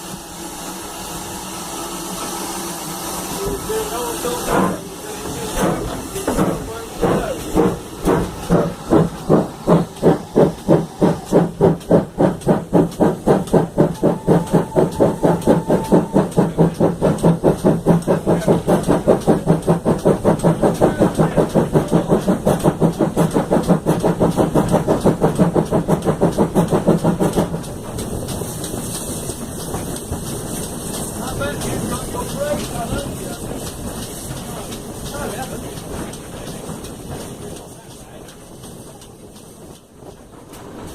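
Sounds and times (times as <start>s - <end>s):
steam hissing: 0.0s - 40.9s
steam locomotive chuffing: 0.0s - 40.9s.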